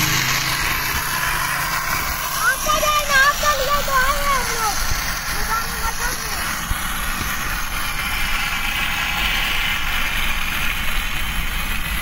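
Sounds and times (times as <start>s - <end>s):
wheels rolling on asphalt: 0.0s - 12.0s
wind: 0.0s - 12.0s.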